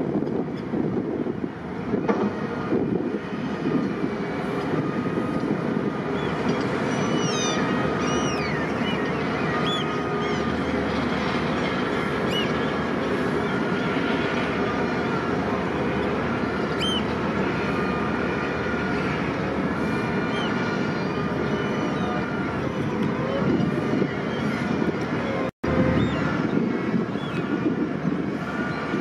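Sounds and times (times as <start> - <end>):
propeller churning water: 0.0 - 29.0.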